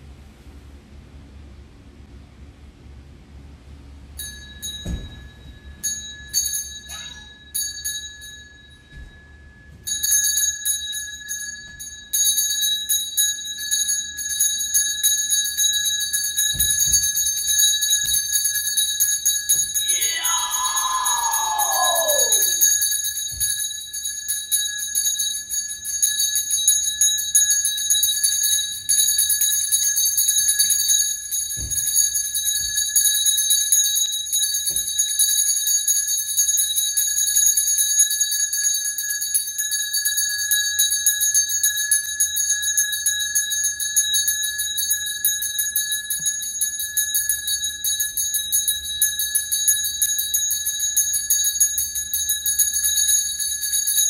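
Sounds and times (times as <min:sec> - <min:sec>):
handbell ringing rapidly: 0:05.8 - 0:08.7, 0:09.9 - 0:54.0.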